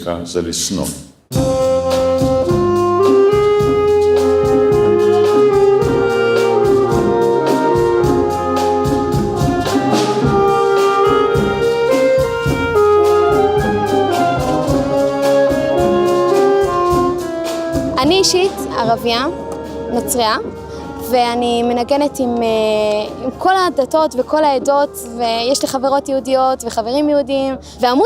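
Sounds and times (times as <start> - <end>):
brass ensemble music: 1.3 - 28.0.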